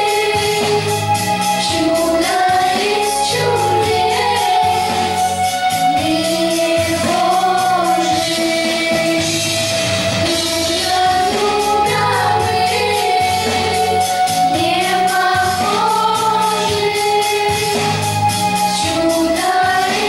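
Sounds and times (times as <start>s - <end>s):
girls singing together: 0.0s - 9.4s, 10.2s - 20.0s
amplified instrumental accompaniment: 0.0s - 20.0s.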